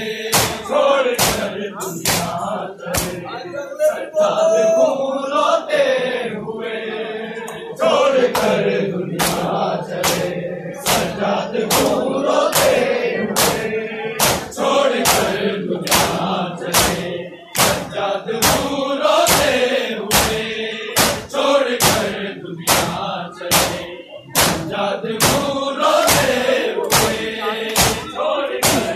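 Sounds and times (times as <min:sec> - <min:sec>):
crowd chanting in unison: 0:00.0 - 0:28.9.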